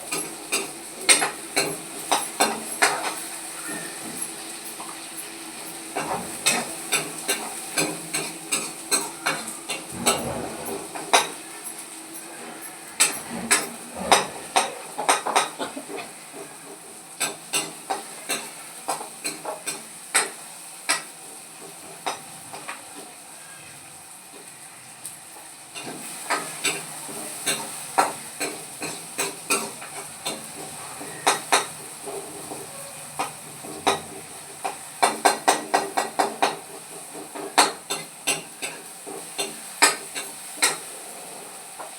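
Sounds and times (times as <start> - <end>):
spoon tapping and scraping pan: 0.0 - 4.2, 6.0 - 11.5, 13.0 - 22.8, 25.8 - 40.9
vegetables sizzling in a pan: 0.0 - 41.9.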